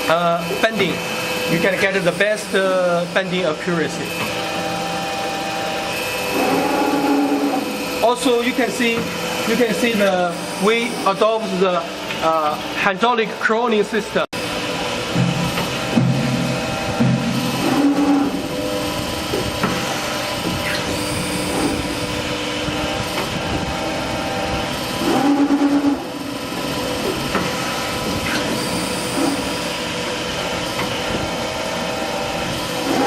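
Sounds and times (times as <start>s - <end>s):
factory machinery humming: 0.0s - 33.0s.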